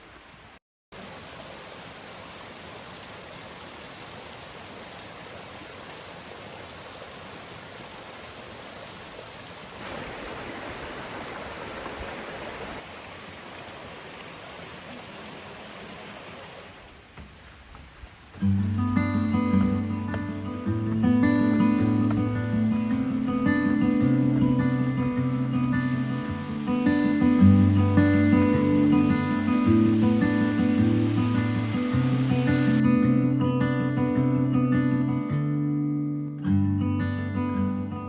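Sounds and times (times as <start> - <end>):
waterfall rushing: 1.0 - 32.8.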